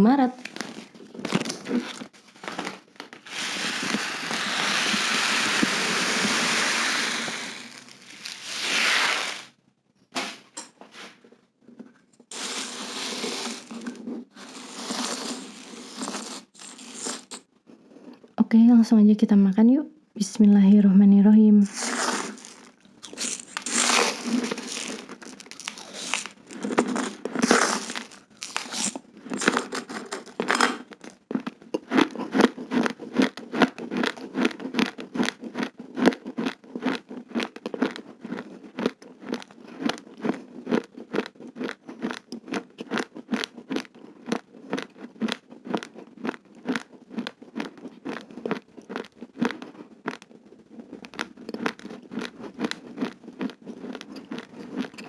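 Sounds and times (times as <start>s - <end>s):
chewing crunchy rice grains: 0.4s - 9.6s, 12.3s - 18.3s, 21.7s - 55.0s.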